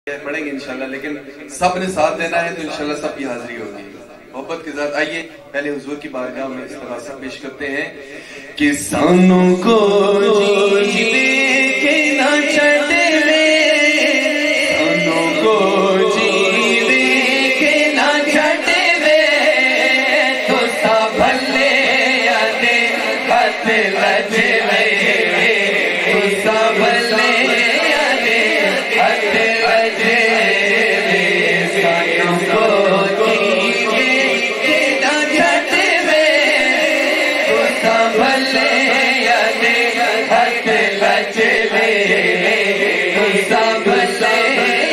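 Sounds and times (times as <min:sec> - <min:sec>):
men chanting devotional song: 0:00.1 - 0:44.9.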